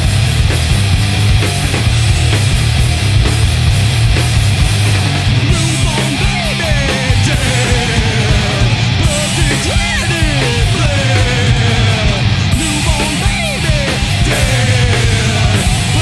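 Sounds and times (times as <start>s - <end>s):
heavy rock band playing: 0.0s - 16.0s.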